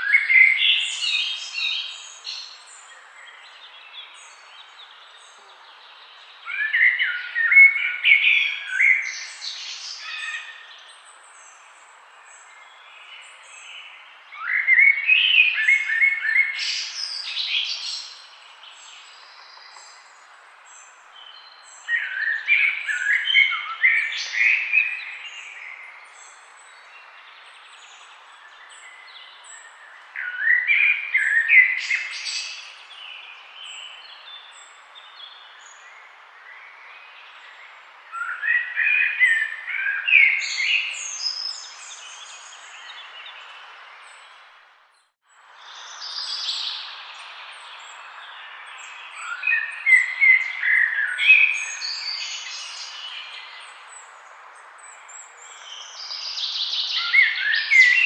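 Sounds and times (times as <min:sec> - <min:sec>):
songbirds chirping: 0:00.0 - 0:58.0
background hiss: 0:07.8 - 0:39.4, 0:40.1 - 0:58.0.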